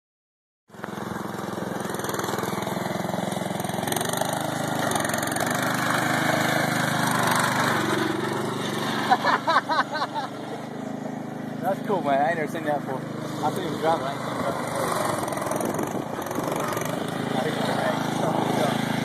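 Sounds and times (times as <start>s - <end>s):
lawn mower engine running: 0.7s - 19.0s.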